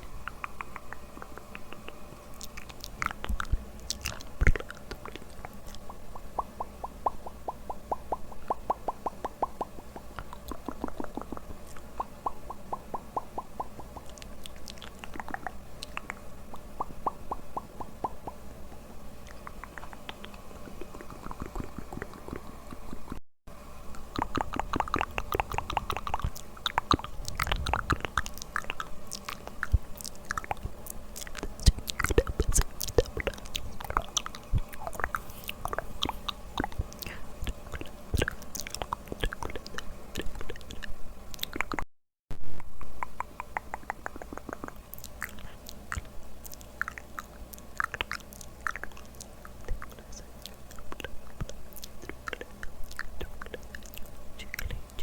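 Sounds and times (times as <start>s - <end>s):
wet mouth clicks and smacks: 0.2s - 18.4s, 19.2s - 22.4s, 24.0s - 41.8s, 42.7s - 55.0s.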